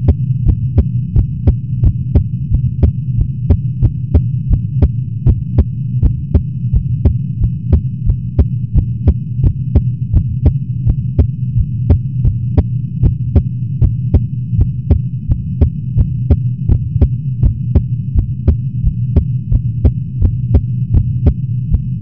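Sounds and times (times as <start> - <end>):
air conditioner humming: 0.0 - 22.0
heartbeat thumps: 0.0 - 22.0.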